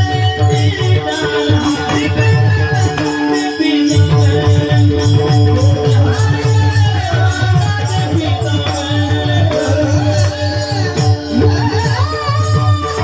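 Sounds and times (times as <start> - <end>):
high bright percussion strokes: 0.0 - 13.0
person singing melody: 0.0 - 13.0.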